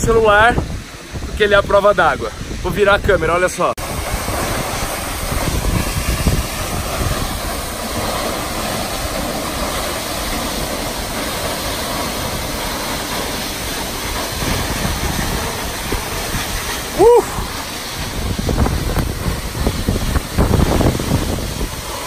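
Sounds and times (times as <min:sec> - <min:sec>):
waterfall crashing into pool: 0:00.0 - 0:22.0.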